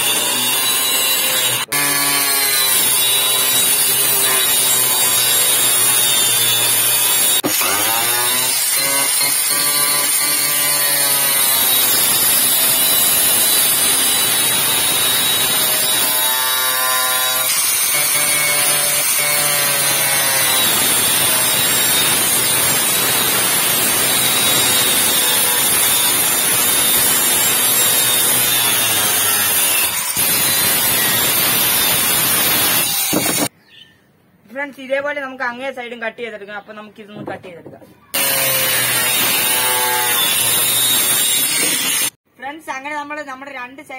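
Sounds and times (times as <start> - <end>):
angle grinder cutting plastic: 0.0 - 33.5, 38.2 - 42.2.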